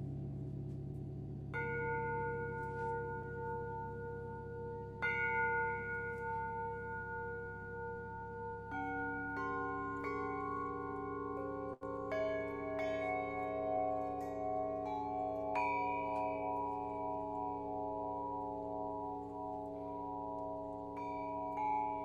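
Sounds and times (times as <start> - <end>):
singing bowls ringing: 0.0 - 22.0.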